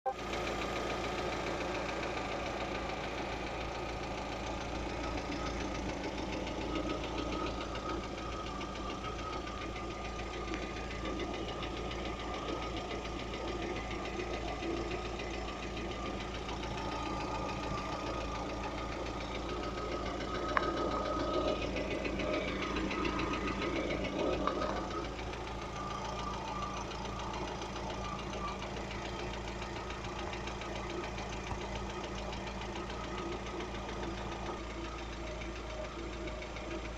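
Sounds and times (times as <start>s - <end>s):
car engine knocking: 0.1s - 36.9s.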